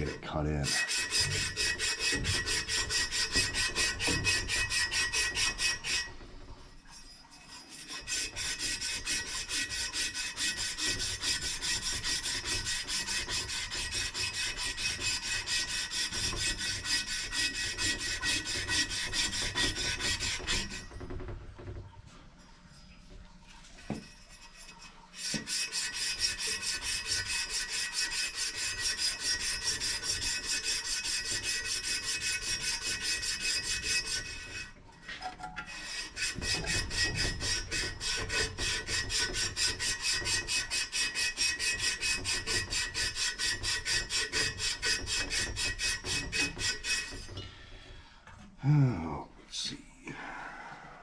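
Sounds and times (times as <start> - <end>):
sand cloth rasping on copper pipe: 0.0 - 21.9, 23.5 - 47.8.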